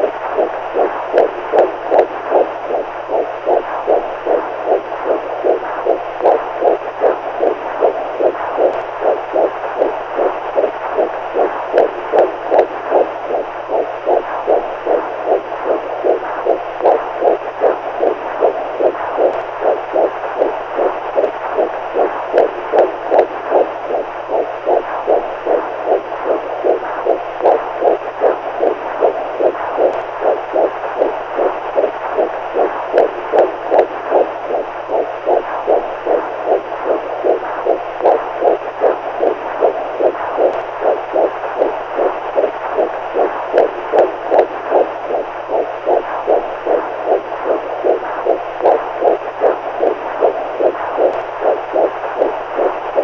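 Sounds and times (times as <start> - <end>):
continuous hiss: 0.0 - 53.0
heartbeat: 0.0 - 53.0
low steady hum: 0.0 - 53.0.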